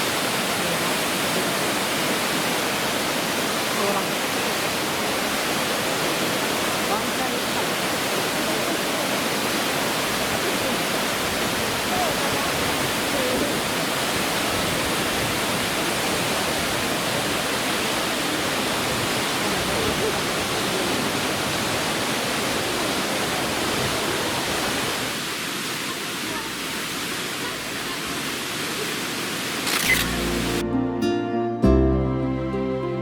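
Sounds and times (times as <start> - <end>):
waterfall rushing: 0.0 - 30.6.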